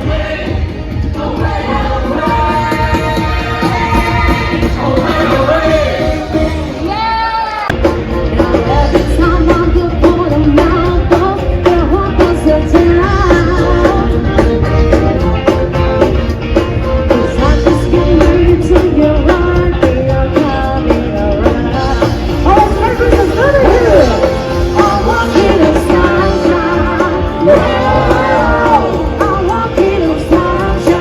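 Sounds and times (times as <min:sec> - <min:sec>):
upbeat rock music with singer: 0:00.0 - 0:31.0.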